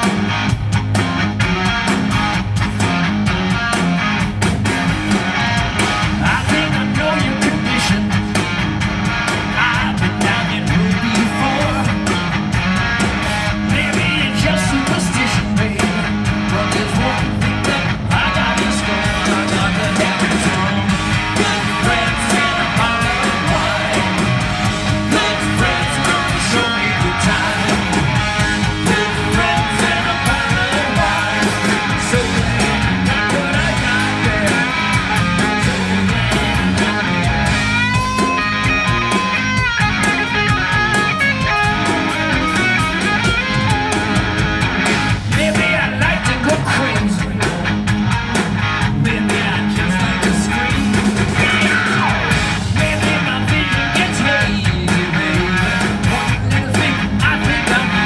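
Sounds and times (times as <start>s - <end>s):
drums: 0.0s - 58.0s
electric guitar lead: 0.0s - 58.0s
live rock band playing: 0.0s - 58.0s.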